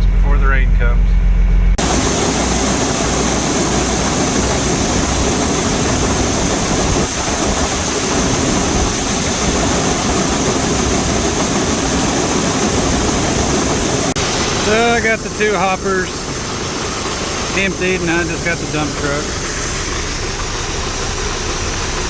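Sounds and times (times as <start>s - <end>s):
truck engine running: 0.0s - 22.0s
loud steady rushing noise: 1.8s - 22.0s.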